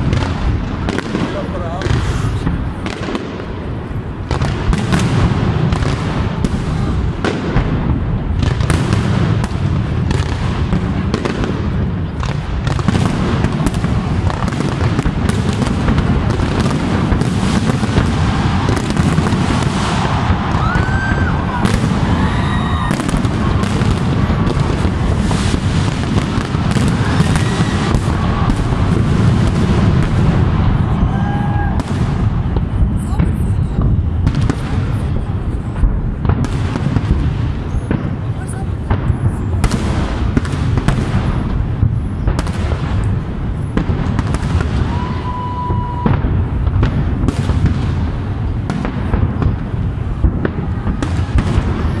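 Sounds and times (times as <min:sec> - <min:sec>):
fireworks booming and crackling: 0:00.0 - 0:52.0.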